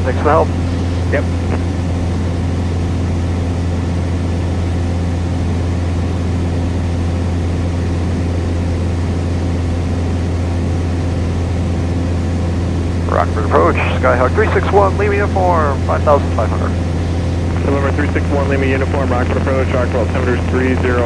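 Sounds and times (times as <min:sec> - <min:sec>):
airplane engine droning: 0:00.0 - 0:21.0.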